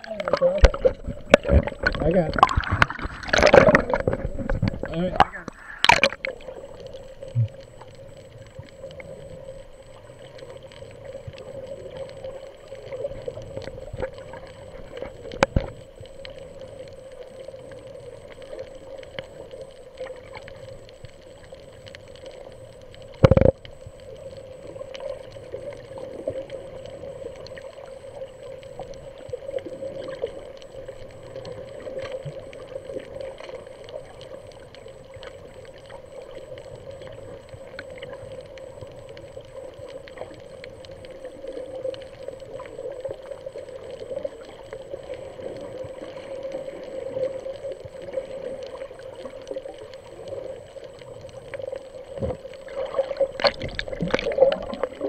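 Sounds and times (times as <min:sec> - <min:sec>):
faint crackling clicks: 0:00.0 - 0:55.0
muffled underwater hum: 0:00.0 - 0:55.0.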